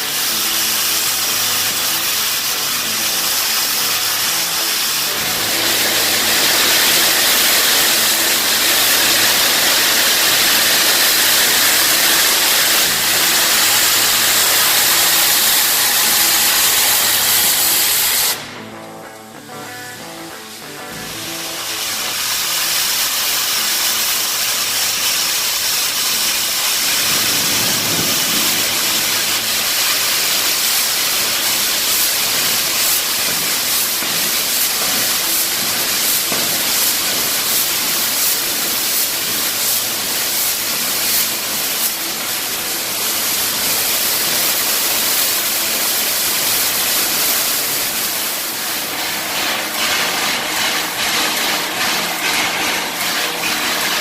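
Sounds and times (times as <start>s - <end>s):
steam engine hissing: 0.0s - 54.0s.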